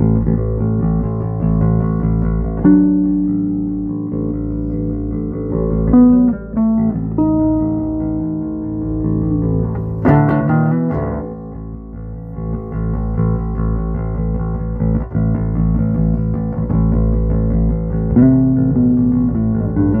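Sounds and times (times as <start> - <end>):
plucked electric bass notes: 0.0 - 20.0.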